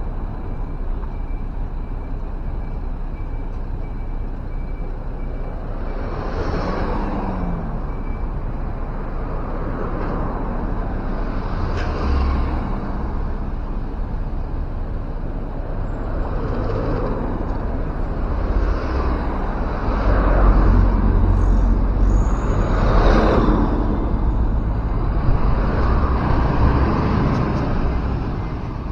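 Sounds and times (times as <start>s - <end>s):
buses and cars passing: 0.0s - 28.9s
heavy vehicle engine rumble: 0.0s - 28.9s
low engine rumble: 0.0s - 28.9s.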